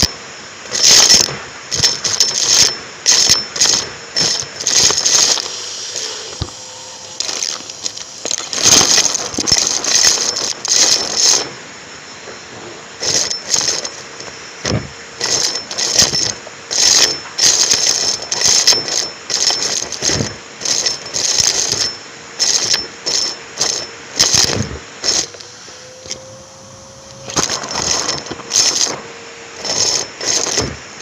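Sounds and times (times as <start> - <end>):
debris rattling through hose: 0.7 - 11.6, 13.0 - 31.0
vacuum cleaner running: 1.8 - 31.0.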